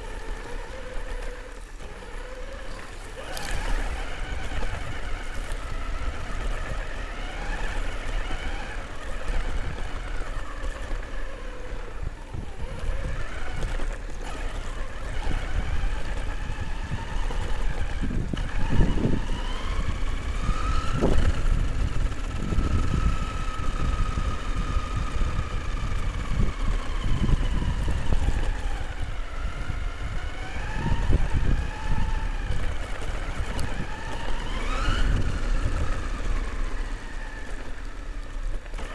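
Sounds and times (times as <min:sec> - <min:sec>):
chassis rumble and rattle: 0:00.0 - 0:38.9
electric motor whine: 0:00.0 - 0:38.9.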